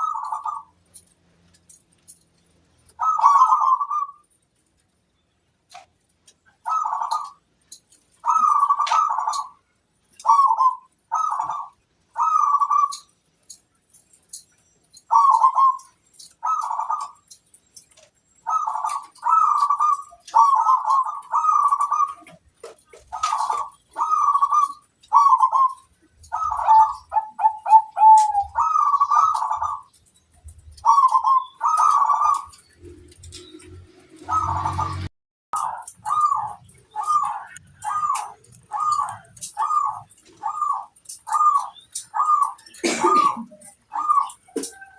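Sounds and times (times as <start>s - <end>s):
dove cooing: 0.0s - 1.0s, 2.9s - 4.3s, 6.5s - 7.5s, 8.2s - 9.6s, 10.2s - 13.1s, 15.1s - 17.3s, 18.4s - 44.9s.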